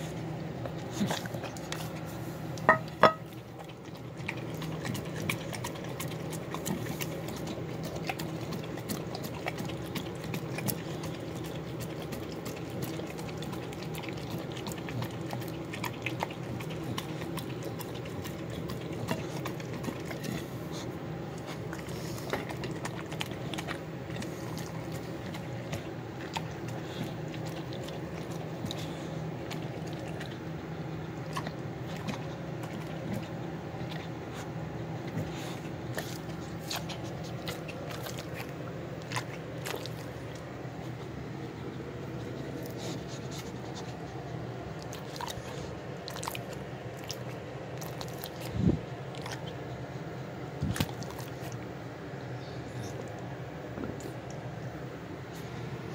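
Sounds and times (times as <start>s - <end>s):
dog licking and lapping food: 0.0s - 55.6s.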